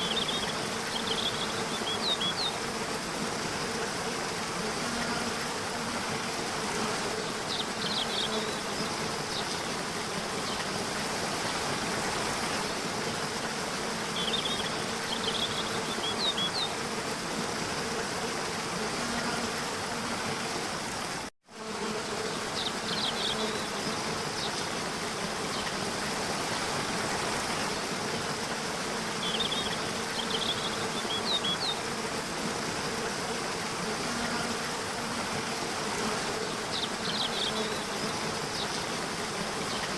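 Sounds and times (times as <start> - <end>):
rushing water: 0.0 - 21.3, 23.5 - 39.9
low insect buzz: 0.0 - 39.9.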